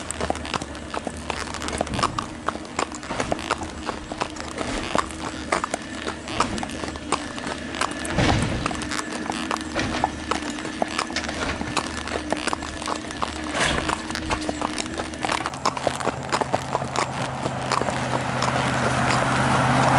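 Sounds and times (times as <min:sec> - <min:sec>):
horse hooves clip-clopping on asphalt: 0:00.0 - 0:19.9.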